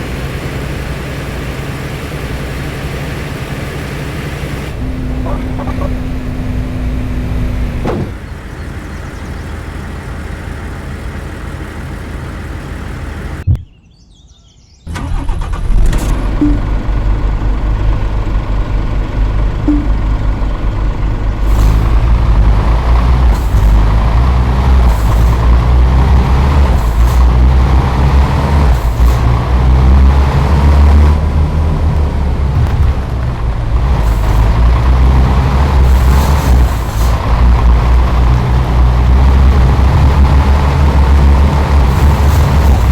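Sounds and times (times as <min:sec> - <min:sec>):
diesel engine rumbling: 0:00.0 - 0:13.8, 0:14.9 - 0:42.9.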